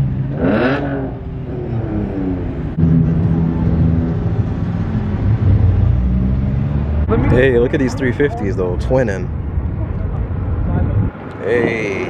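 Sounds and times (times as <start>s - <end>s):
car engines passing slowly: 0.0s - 12.0s.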